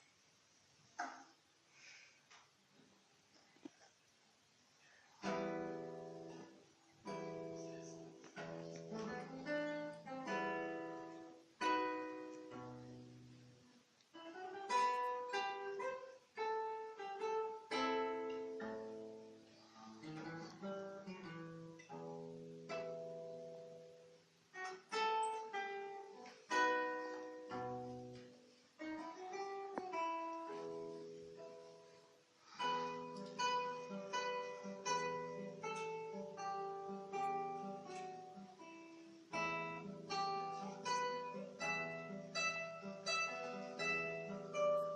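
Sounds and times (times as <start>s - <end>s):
classical guitar plucked melody: 5.2s - 44.9s.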